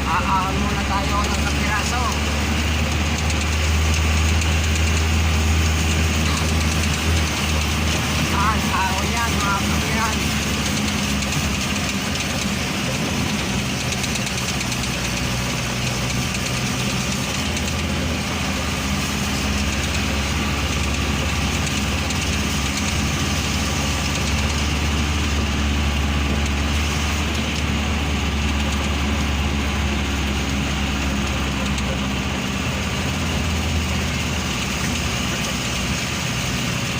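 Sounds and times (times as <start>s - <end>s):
vehicle engine droning: 0.0s - 36.9s.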